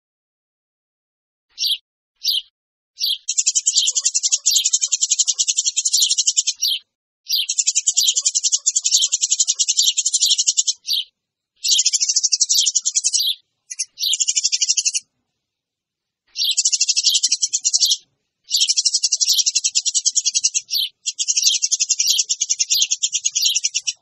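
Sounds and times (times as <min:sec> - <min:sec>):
sparrows chattering: 0:01.5 - 0:15.1, 0:16.3 - 0:24.0.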